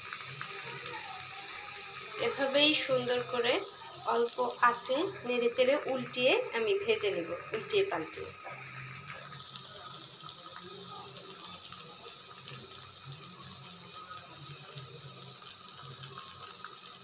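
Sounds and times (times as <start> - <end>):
fritters sizzling in oil: 0.0 - 17.0.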